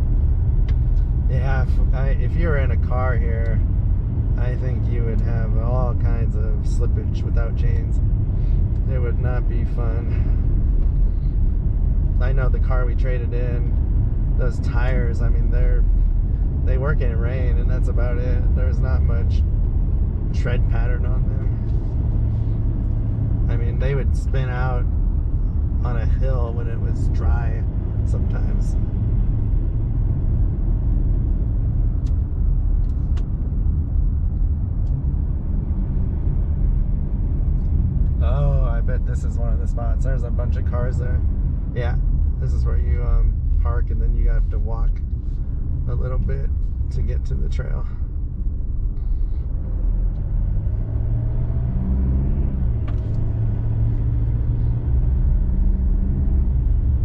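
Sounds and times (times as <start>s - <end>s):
car driving uphill from inside: 0.0s - 57.0s
diesel engine drone: 0.0s - 57.0s.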